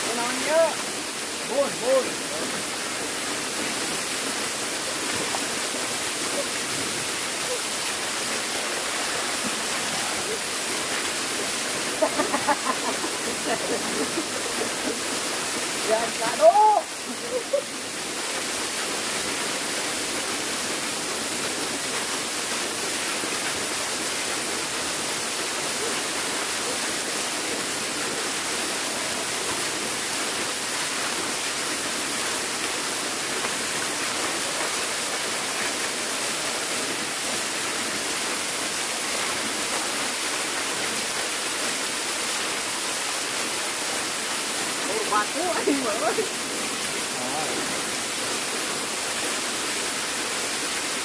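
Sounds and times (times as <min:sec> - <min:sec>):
waterfall splashing onto rocks: 0:00.0 - 0:51.0.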